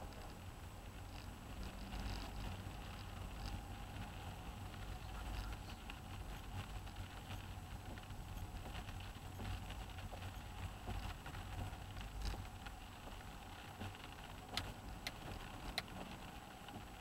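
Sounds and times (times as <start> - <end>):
car engine and tyres hum: 0.0 - 17.0
rain pattering on windscreen: 0.0 - 17.0.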